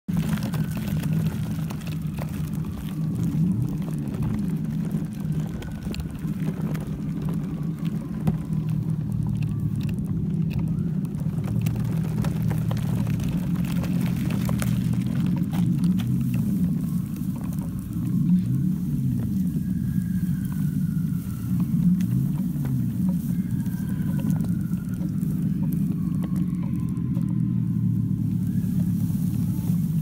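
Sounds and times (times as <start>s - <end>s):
light clicks and crunches: 0.0s - 30.0s
low engine-like rumble: 0.0s - 30.0s.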